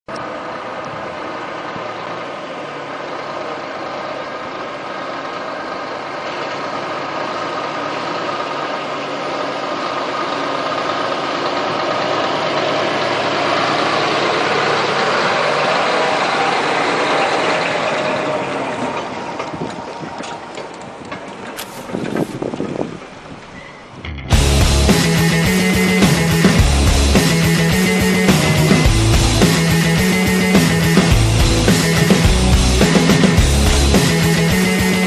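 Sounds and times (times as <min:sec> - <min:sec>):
truck diesel engine running: 0:00.1 - 0:35.0.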